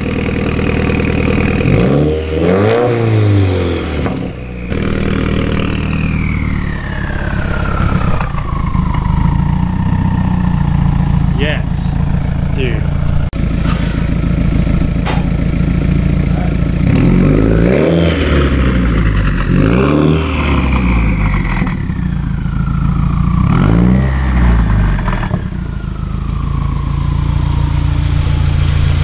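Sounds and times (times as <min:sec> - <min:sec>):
car engine revving: 0:00.0 - 0:29.0
high whine: 0:03.3 - 0:29.0.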